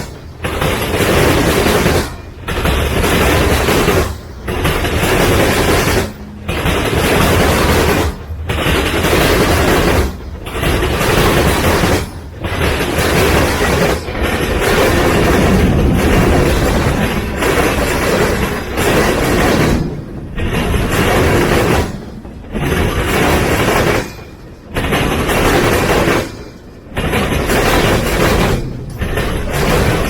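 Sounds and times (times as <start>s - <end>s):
freight train cars rumbling past: 0.0s - 30.0s.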